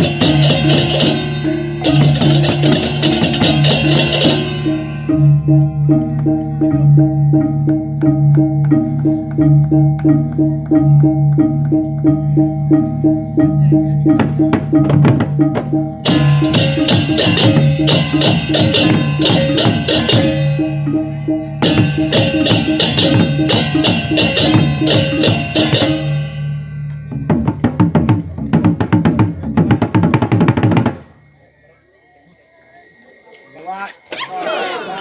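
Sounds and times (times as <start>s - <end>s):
drums and gongs beating: 0.0s - 31.2s
hand cymbals clashing: 0.0s - 31.2s.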